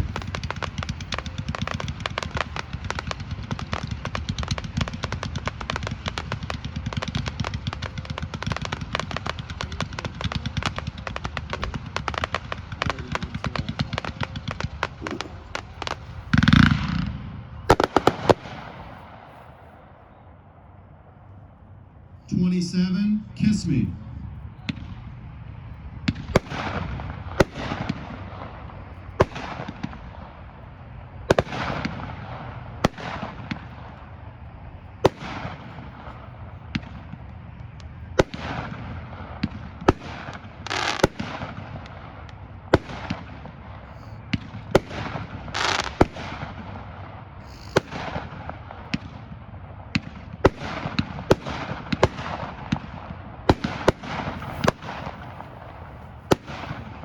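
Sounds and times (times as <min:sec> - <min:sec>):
firework sharp reports: 0:00.0 - 0:57.0.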